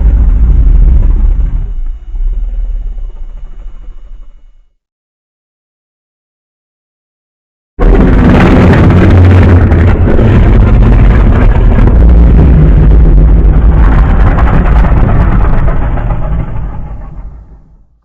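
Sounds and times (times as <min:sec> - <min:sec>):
low crackling rumble: 0:00.0 - 0:04.7, 0:07.8 - 0:18.0.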